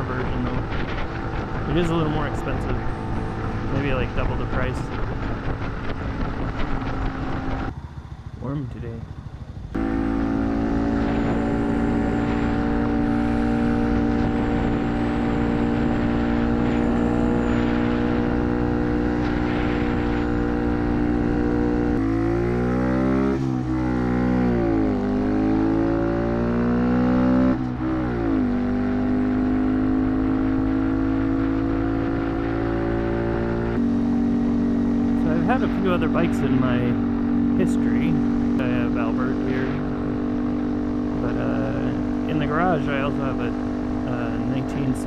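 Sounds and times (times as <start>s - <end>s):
motorcycle engine cruising: 0.0s - 45.0s.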